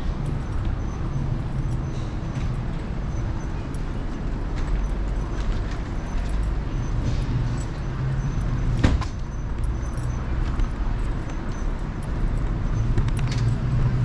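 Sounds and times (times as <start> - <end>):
scooter road rumble: 0.0 - 14.0.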